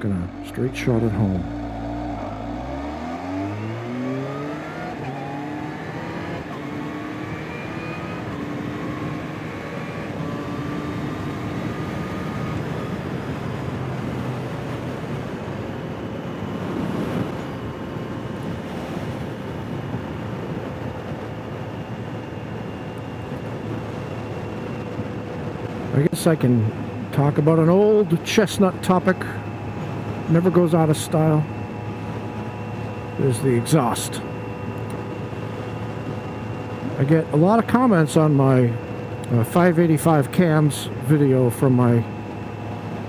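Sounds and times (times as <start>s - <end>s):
wind rushing on microphone: 0.0s - 37.8s
motorcycle engine accelerating: 0.0s - 43.0s.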